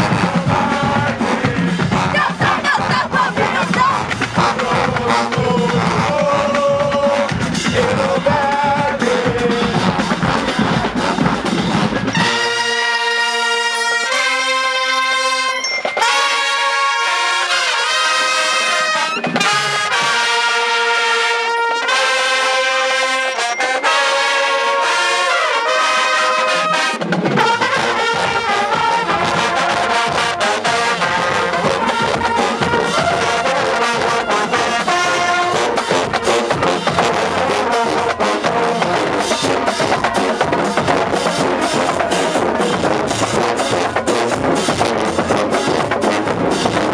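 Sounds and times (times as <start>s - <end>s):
low brass and percussion: 0.0s - 46.9s
trumpets and trombones playing: 0.0s - 46.9s.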